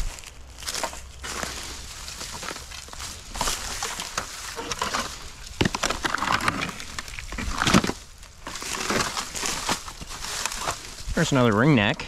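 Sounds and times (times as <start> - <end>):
footsteps crunching dry ground cover: 0.0 - 12.0.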